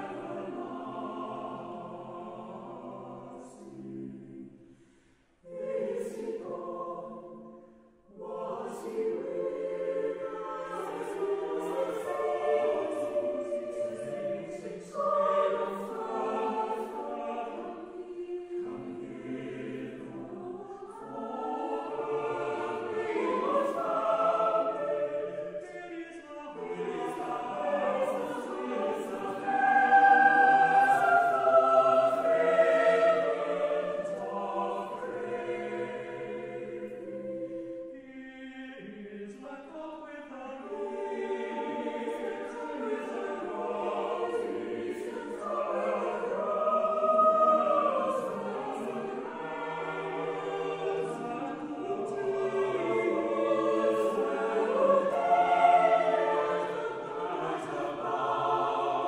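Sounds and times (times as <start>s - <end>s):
choir singing unaccompanied: 0.0s - 4.7s, 5.4s - 59.0s.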